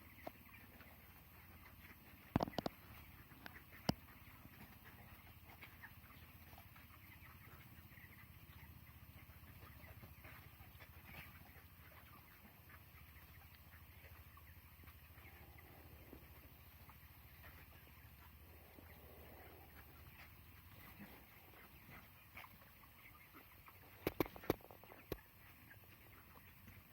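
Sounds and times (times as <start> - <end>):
chicks chirping and peeping: 0.0 - 26.9
steady low hum: 0.1 - 26.9.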